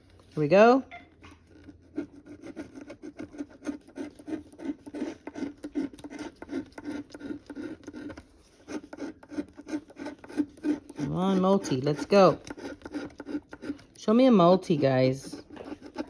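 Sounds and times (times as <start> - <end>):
scratching lottery ticket: 0.0 - 16.0.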